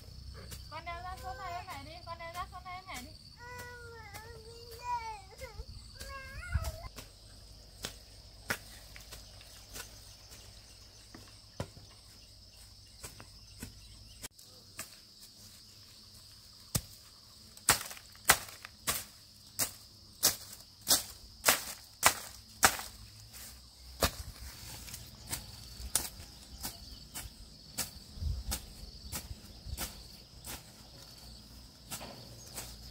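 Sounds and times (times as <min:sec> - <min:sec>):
crickets chirring: 0:00.0 - 0:32.9.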